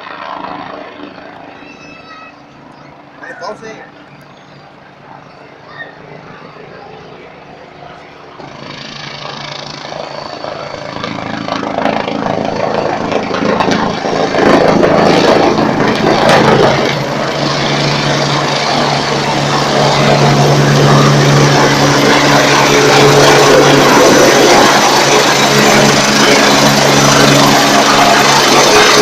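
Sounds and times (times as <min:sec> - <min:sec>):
helicopter rotor and engine: 0:00.0 - 0:29.0.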